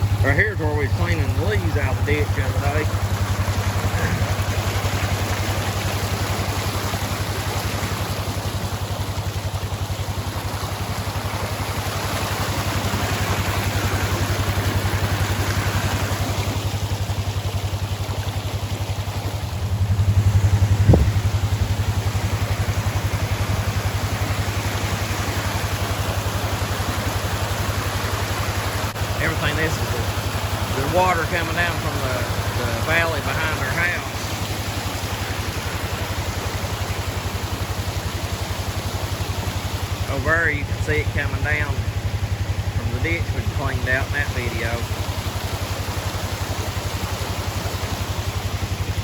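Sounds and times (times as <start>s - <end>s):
floodwater rushing in ditch: 0.0s - 49.0s
vehicle engine idling: 0.0s - 49.0s.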